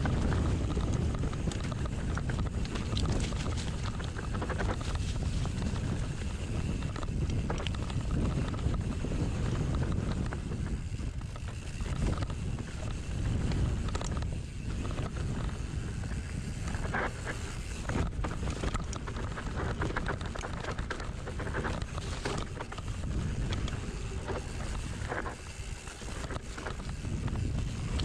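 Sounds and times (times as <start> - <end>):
bike clicking and rattling: 0.0 - 28.0
bike tyres rolling on dirt: 0.0 - 28.0
wind on microphone: 0.0 - 28.0.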